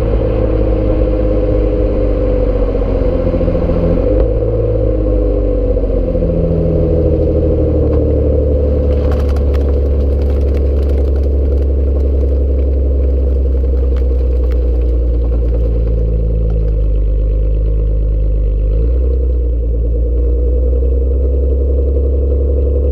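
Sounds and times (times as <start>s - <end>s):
car exhaust rumble: 0.0s - 22.9s.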